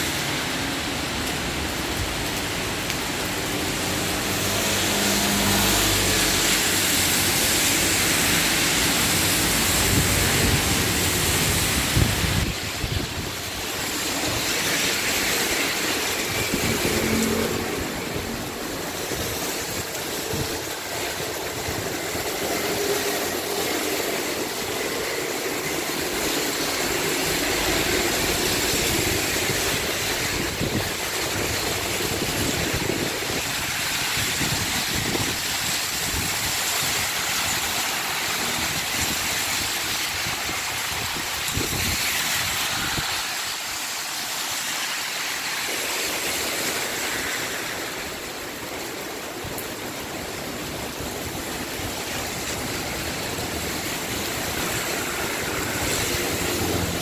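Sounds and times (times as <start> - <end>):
heavy rain on street: 0.0 - 57.0
vehicles passing on wet road: 0.0 - 57.0.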